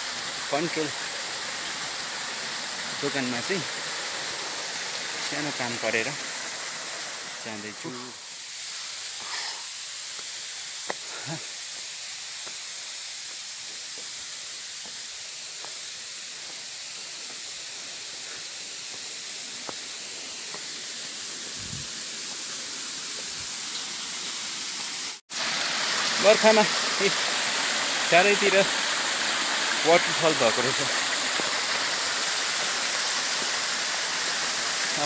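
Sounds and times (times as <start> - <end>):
stream water rushing: 0.0 - 10.2, 16.2 - 35.0.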